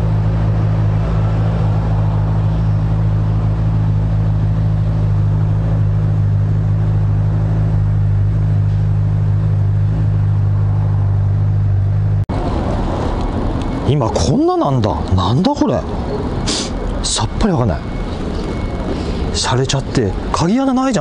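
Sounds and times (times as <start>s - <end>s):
engine idling drone: 0.0s - 21.0s.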